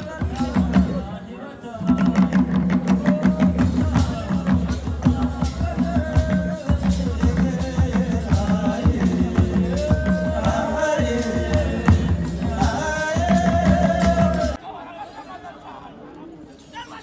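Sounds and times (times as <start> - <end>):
steady drum rhythm: 0.0 - 1.2, 1.8 - 14.6
group of voices singing: 0.0 - 14.6.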